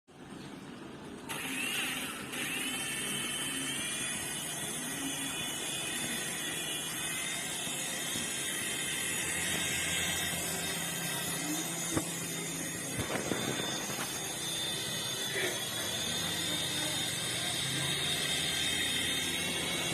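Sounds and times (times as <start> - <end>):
toy helicopter motors whining: 1.3 - 19.9.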